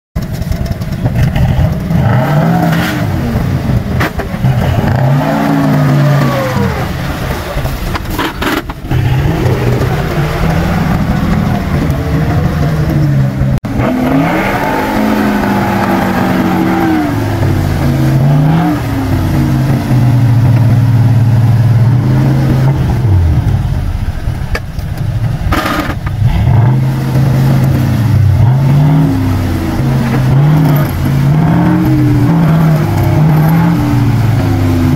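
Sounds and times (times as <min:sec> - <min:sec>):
truck engine revving: 0:00.2 - 0:34.9.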